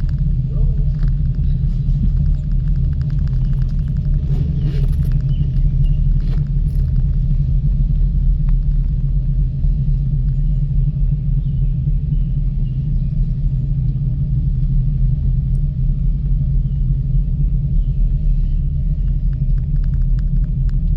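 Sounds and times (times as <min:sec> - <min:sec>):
faint steady hum: 0:00.0 - 0:20.9
gondola low rumble: 0:00.0 - 0:20.9.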